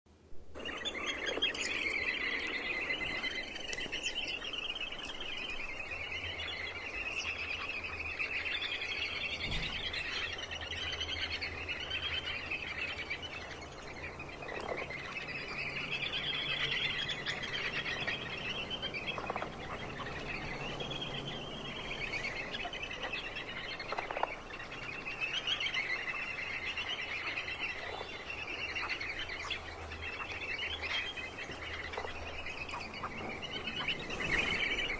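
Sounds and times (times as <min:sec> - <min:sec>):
birds warbling chatter: 0:00.6 - 0:34.9
sharp bird calls: 0:00.6 - 0:34.9.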